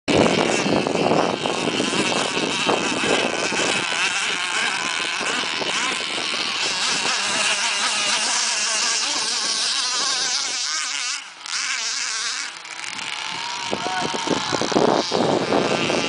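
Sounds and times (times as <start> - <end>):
model boat motor whining: 0.1 - 16.0.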